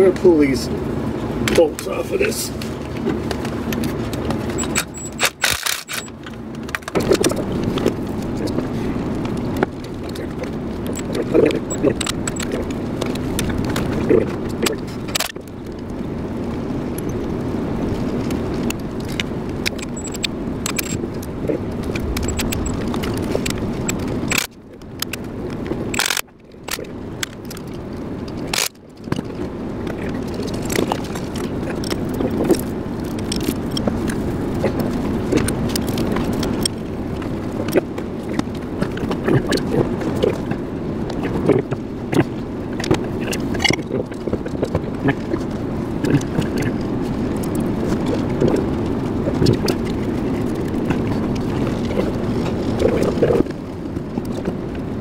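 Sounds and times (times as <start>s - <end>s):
low rumbling background noise: 0.0s - 55.0s.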